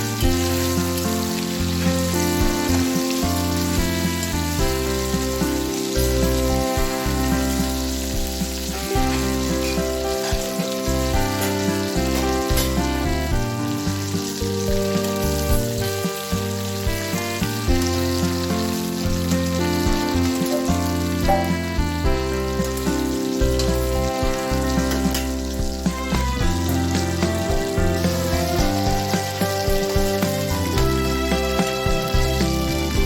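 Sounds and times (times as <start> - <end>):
food sizzling in hot oil: 0.0 - 33.0
instrumental background music: 0.0 - 33.0.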